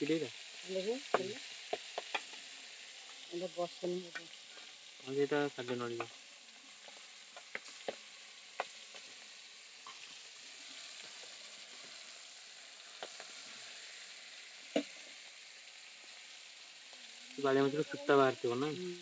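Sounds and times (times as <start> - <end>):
fish sizzling in oil: 0.0 - 19.0.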